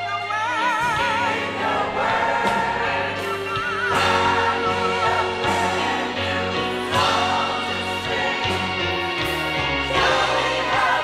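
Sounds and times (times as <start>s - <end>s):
choir singing a hymn: 0.8s - 11.0s.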